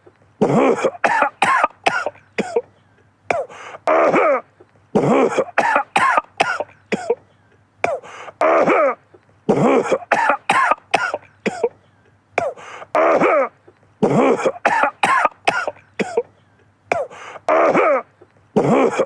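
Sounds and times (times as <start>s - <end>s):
man coughing: 0.4s - 19.0s.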